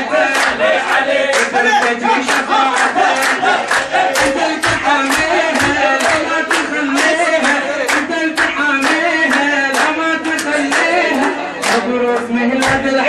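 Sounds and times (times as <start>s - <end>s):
men chanting a song: 0.0s - 11.9s
rhythmic hand-clapping: 0.0s - 13.0s.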